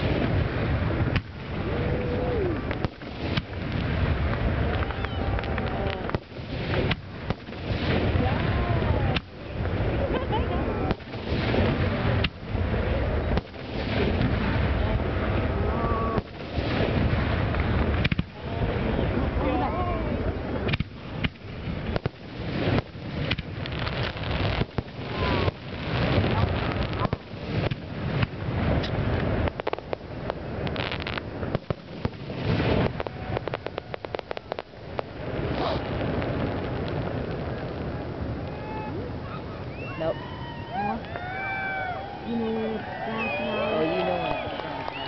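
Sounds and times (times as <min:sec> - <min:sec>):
fireworks booming: 0:00.0 - 0:45.0
fireworks crackling: 0:00.0 - 0:45.0.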